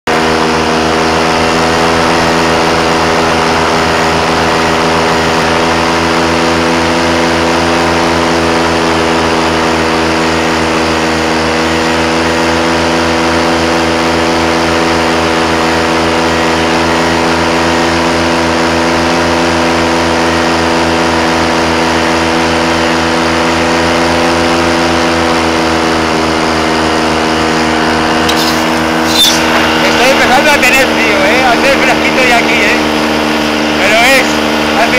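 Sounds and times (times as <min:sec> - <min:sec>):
paramotor engine droning: 0:00.0 - 0:34.9.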